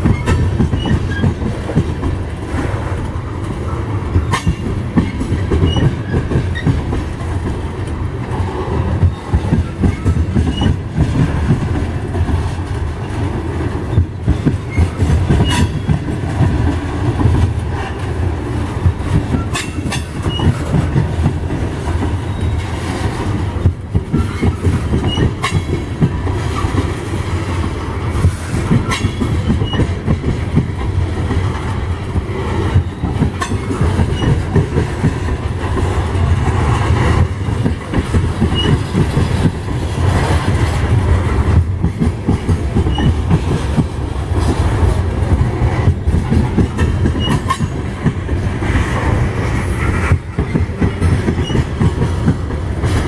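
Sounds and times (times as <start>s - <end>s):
wheels clicking over rail joints: 0.0s - 53.0s.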